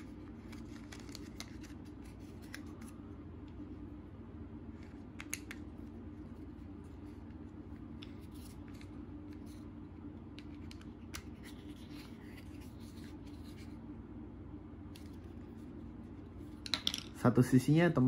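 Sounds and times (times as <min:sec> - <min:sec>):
low hum: 0:00.0 - 0:17.8.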